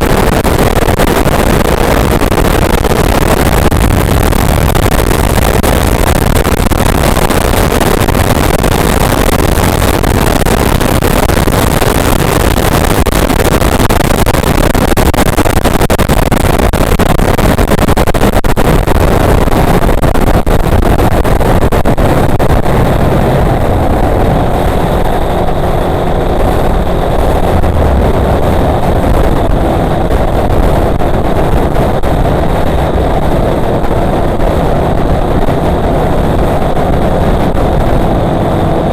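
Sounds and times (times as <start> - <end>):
motorcycle engine at full throttle: 0.0 - 38.9
rushing wind noise: 0.0 - 38.9.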